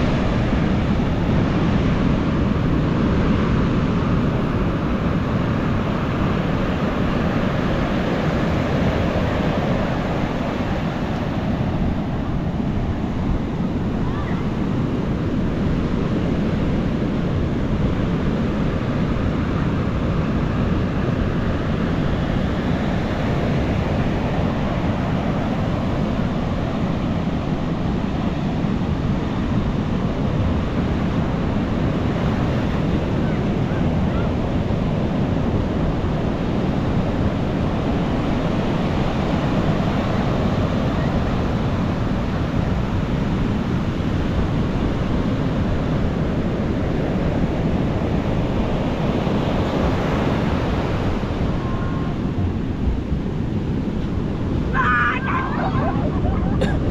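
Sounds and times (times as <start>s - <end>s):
ocean surf breaking on beach: 0.0s - 56.9s.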